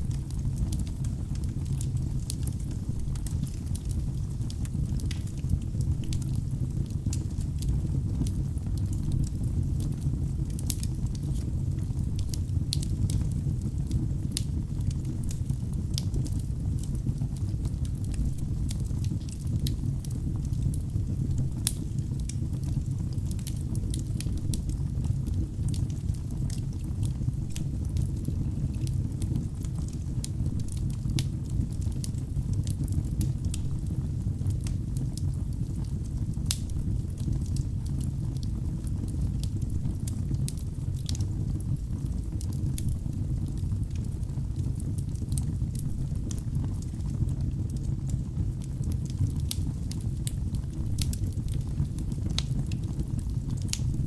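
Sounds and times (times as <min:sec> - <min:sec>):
fire flames rumbling: 0:00.0 - 0:54.0
wood crackling and popping: 0:00.0 - 0:54.0.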